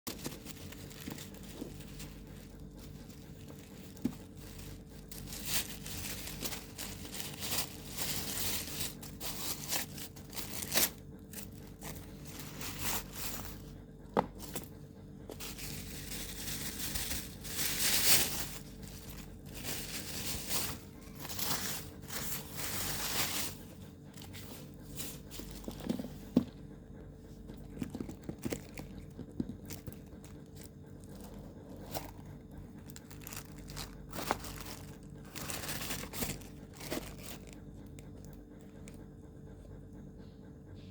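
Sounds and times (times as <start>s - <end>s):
packaging crinkling and tearing: 0.1s - 13.7s, 14.3s - 26.0s, 27.5s - 39.0s.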